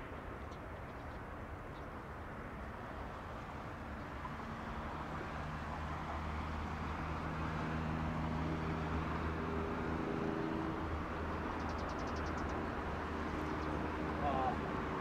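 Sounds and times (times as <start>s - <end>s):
distant engines humming: 0.0s - 15.0s
outdoor background noise: 0.0s - 15.0s.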